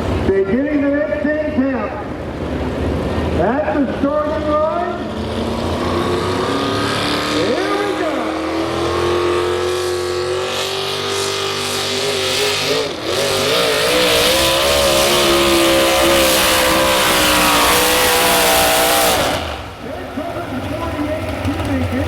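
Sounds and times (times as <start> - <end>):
truck engine at full throttle: 0.0 - 22.0.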